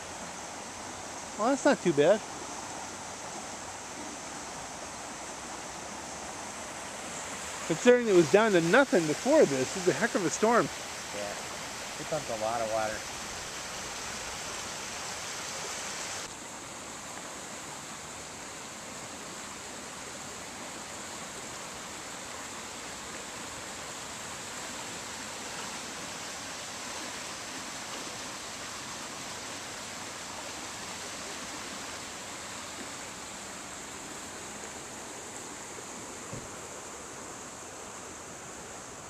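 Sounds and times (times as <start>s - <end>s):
rain falling on water: 0.0s - 39.0s
river rushing: 0.0s - 39.0s.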